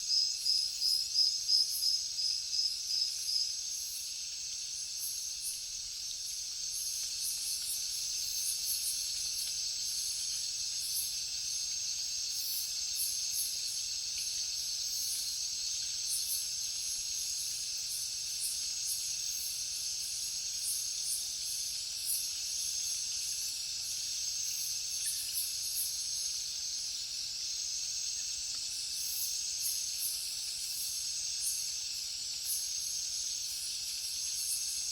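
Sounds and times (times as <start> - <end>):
rapid insect chirps: 0.0 - 34.9
insects buzzing: 0.1 - 34.9
repeating insect chirp: 0.1 - 34.9.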